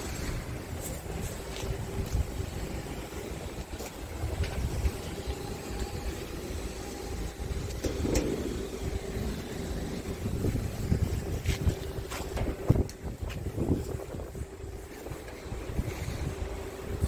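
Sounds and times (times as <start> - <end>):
faint steady hum: 0.0 - 17.0
wind buffeting microphone: 0.0 - 17.0.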